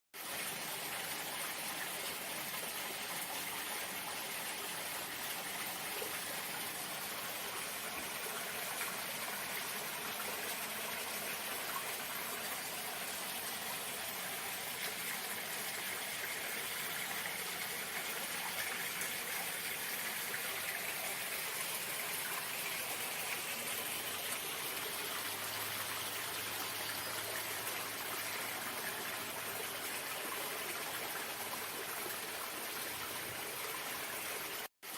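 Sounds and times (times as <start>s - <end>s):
running water: 0.2s - 34.9s.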